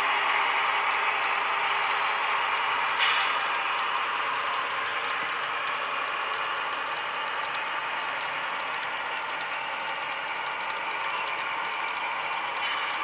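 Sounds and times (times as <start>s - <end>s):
model train wheels whirring on rails: 0.0s - 13.0s
wheels clicking over rail joints: 0.0s - 13.0s.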